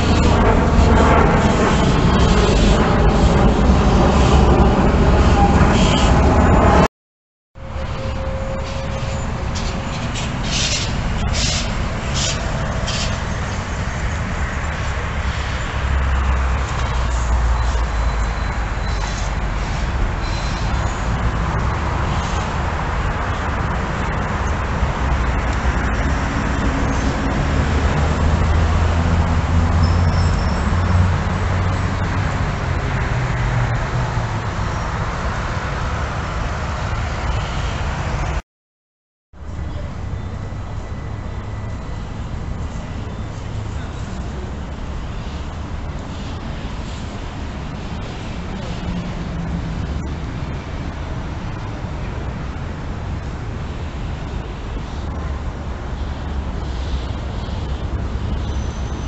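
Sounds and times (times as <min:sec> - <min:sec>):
passing vehicles: 0:00.0 - 0:06.9, 0:07.6 - 0:38.4, 0:39.4 - 0:59.0.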